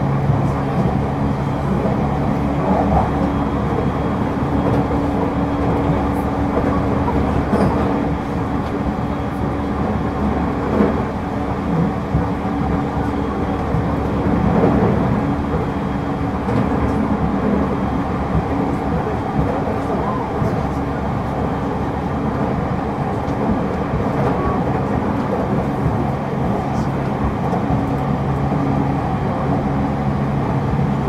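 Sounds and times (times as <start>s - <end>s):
train motor hum: 0.0s - 31.0s
wheel-on-rail noise: 0.0s - 31.0s.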